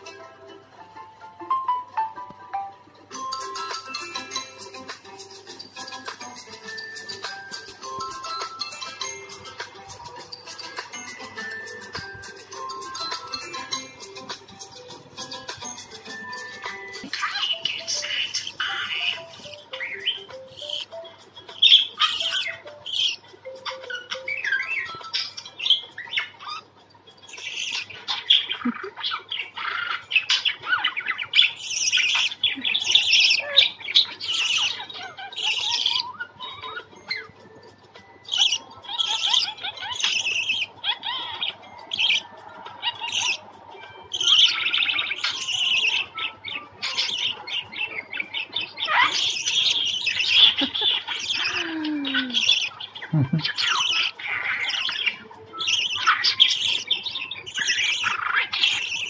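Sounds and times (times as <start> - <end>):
talking budgie on phone speaker: 3.1 - 26.7, 27.3 - 37.5, 38.2 - 59.0
budgerigars chattering: 3.2 - 59.0.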